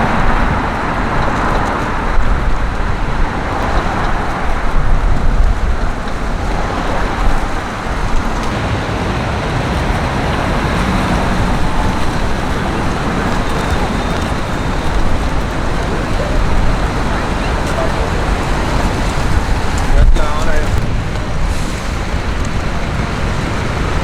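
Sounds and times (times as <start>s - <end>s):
traffic driving past: 0.0s - 24.0s.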